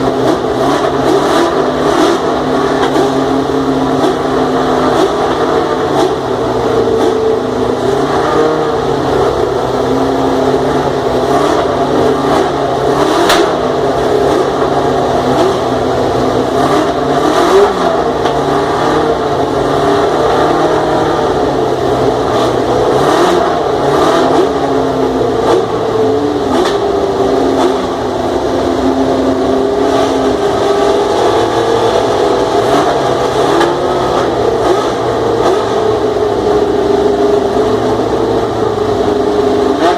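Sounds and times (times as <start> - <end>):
racing car engine idling: 0.0 - 39.9.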